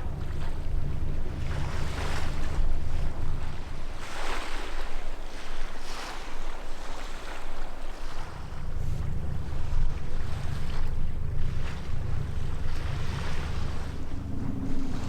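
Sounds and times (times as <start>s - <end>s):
sea waves breaking on beach: 0.0s - 15.0s
wind rumbling on microphone: 0.0s - 15.0s.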